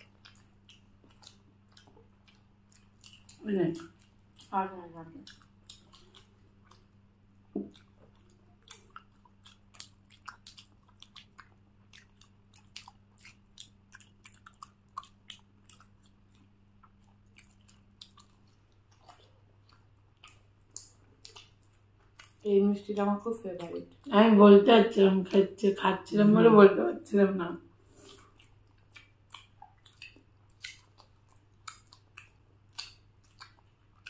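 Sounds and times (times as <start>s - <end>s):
person chewing: 0.0s - 24.1s, 27.8s - 34.0s.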